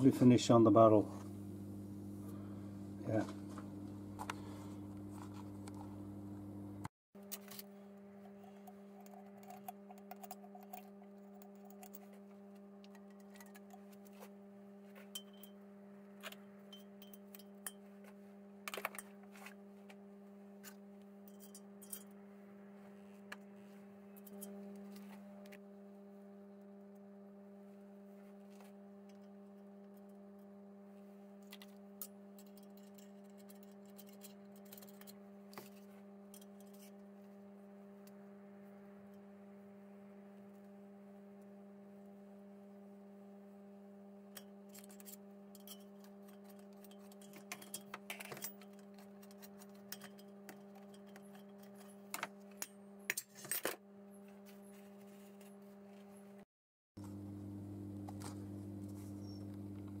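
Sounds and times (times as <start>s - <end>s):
low electrical hum: 0.0s - 56.4s, 57.0s - 60.0s.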